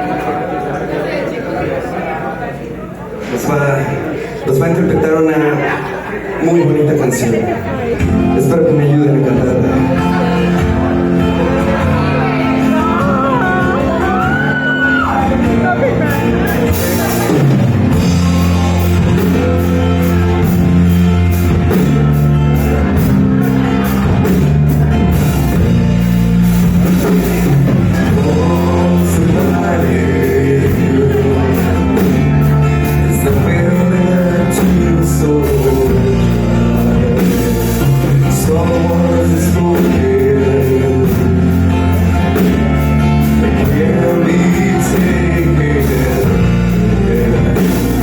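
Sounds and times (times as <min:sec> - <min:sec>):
rock band playing slow song: 0:05.6 - 0:48.0
person singing: 0:08.2 - 0:25.7, 0:26.6 - 0:48.0.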